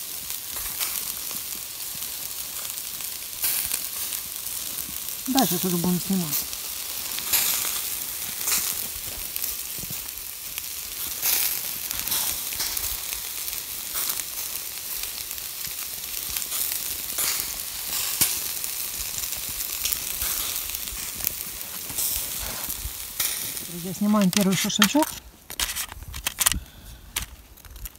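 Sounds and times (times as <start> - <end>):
meat sizzling over charcoal: 0.0 - 27.9
sharp crackle: 0.0 - 27.9.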